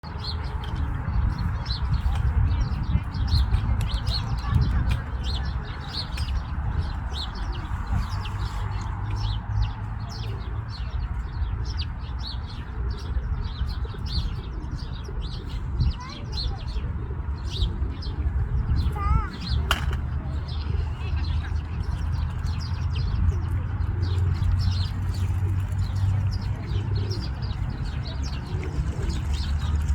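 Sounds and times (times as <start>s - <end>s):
birds chirping: 0.0s - 29.9s.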